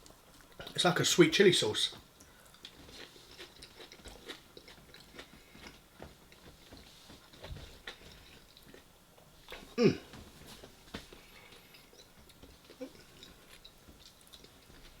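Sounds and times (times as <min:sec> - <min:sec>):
wet chewing: 0:02.0 - 0:09.8, 0:10.4 - 0:15.0.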